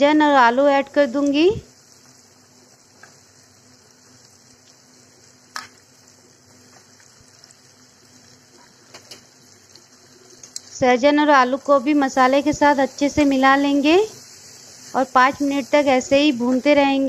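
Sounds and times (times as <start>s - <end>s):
faint sizzling in a pan: 0.0s - 17.0s.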